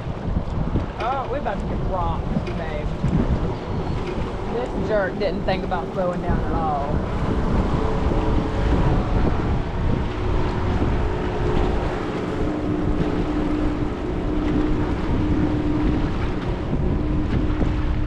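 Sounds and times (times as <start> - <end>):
motorboat engine droning: 0.0 - 18.0
wind on microphone: 0.0 - 18.0.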